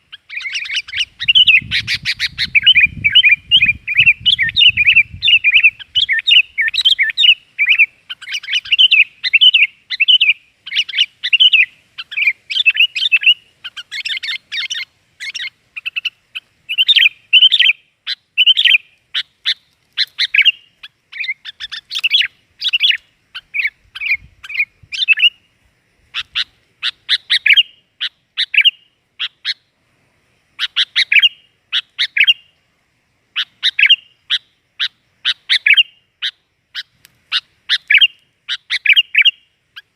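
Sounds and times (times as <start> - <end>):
bird chirping: 0.0 - 29.8, 30.6 - 32.7, 33.3 - 39.9.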